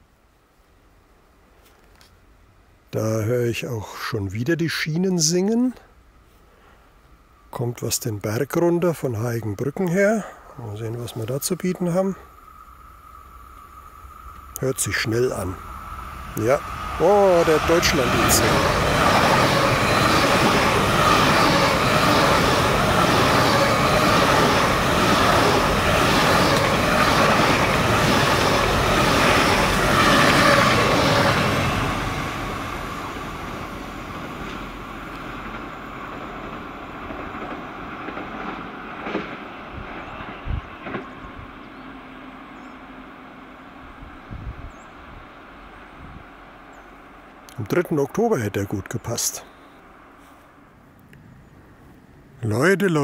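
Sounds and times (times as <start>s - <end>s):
high-speed train passing: 7.2s - 53.0s.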